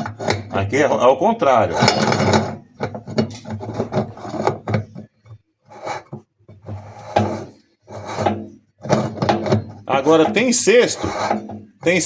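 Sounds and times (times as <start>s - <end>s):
wrench scraping and knocking metal: 0.0s - 0.9s, 1.6s - 12.0s.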